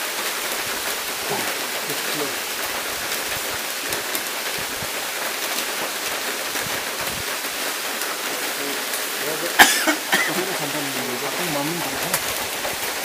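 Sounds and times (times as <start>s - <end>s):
water hissing: 0.0s - 13.0s.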